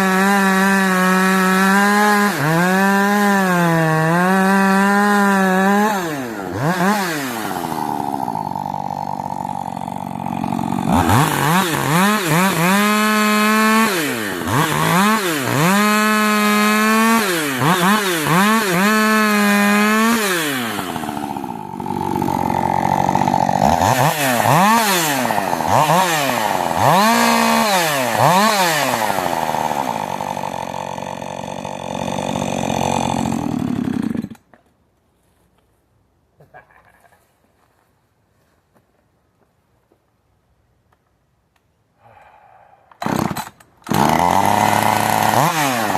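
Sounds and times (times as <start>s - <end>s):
chainsaw engine revving: 0.0s - 34.5s, 43.0s - 45.9s.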